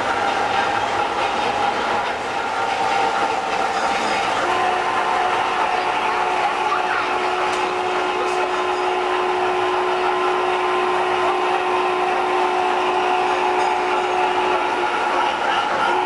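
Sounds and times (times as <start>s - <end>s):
model locomotives whirring hum: 0.0s - 16.0s.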